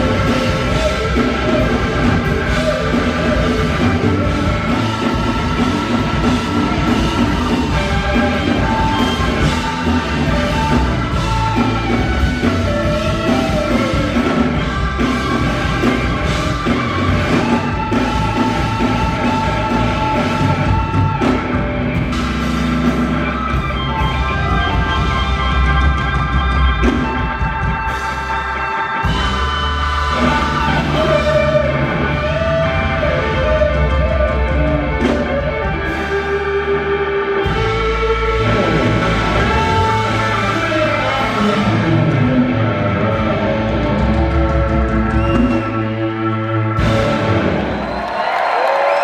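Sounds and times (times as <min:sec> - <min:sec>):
drum kit: 0:00.0 - 0:46.0, 0:46.6 - 0:49.0
live rock band playing: 0:00.0 - 0:49.0.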